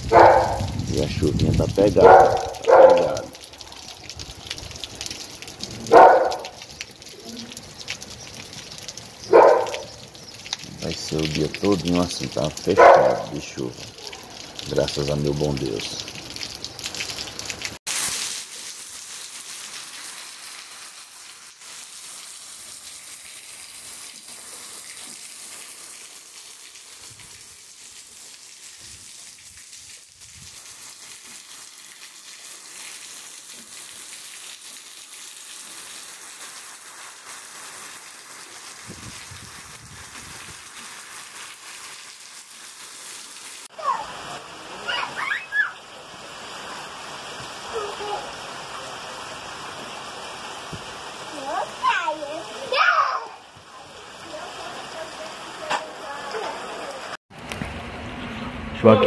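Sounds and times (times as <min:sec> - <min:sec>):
rain falling on wet ground: 0:00.0 - 0:58.1.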